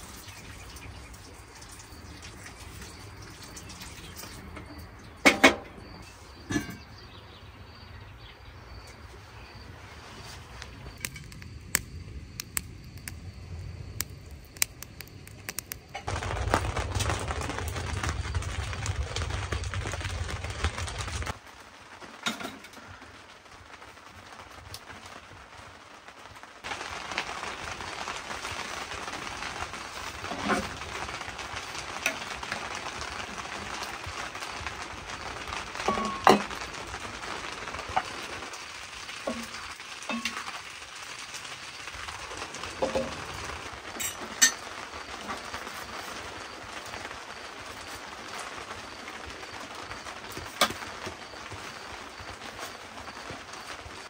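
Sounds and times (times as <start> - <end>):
food sizzling in a frying pan: 8.6 - 54.0.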